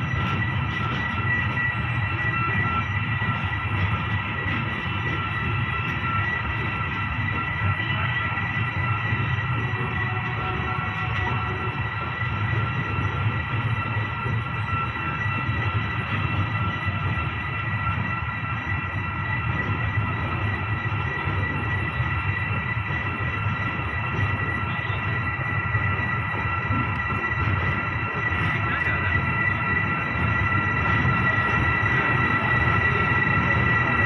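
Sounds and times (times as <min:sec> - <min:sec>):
high-pitched squeal: 0:00.0 - 0:34.0
train rumbling: 0:00.0 - 0:34.0.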